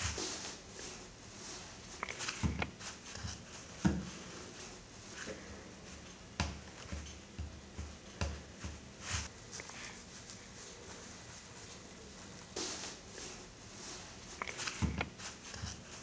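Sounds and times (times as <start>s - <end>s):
jacket fabric rustling: 0.0s - 16.0s.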